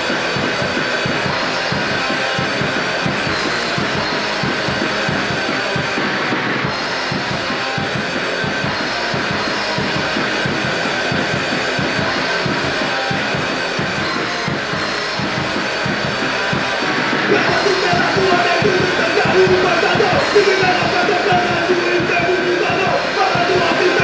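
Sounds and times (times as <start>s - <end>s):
bass guitar: 0.0s - 24.0s
distorted electric guitar: 0.0s - 24.0s
fast drum-kit playing: 0.0s - 24.0s.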